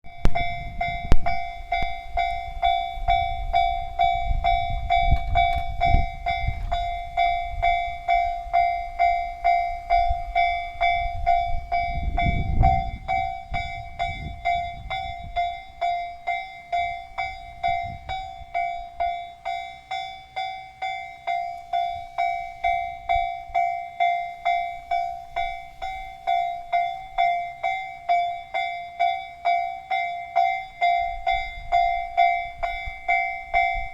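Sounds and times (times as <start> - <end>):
level crossing warning bell: 0.0 - 33.9
diesel train rumble: 0.1 - 33.9.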